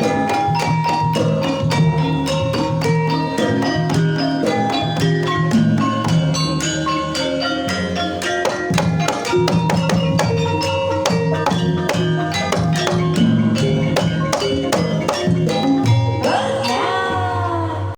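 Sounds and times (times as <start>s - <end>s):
steady drum patterns: 0.0s - 17.4s
tuned struck percussion runs: 0.0s - 17.7s.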